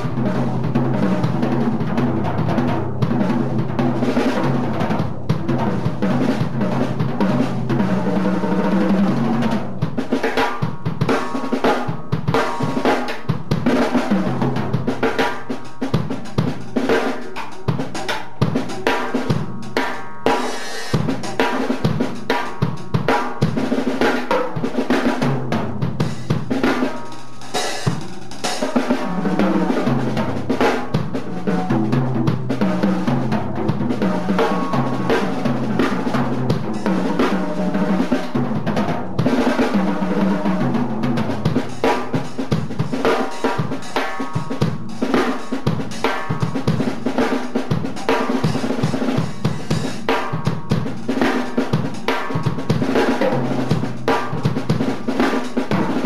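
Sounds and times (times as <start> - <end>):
drum rolls on toms and snare: 0.0 - 56.0.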